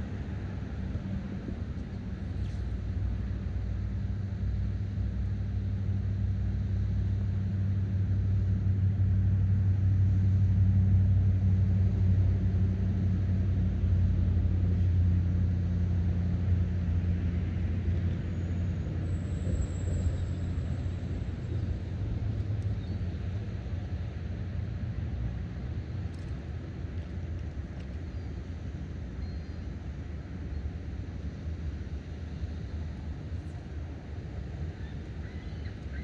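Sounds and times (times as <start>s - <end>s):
engine hum: 0.0s - 36.0s
road traffic rumble: 0.0s - 36.0s.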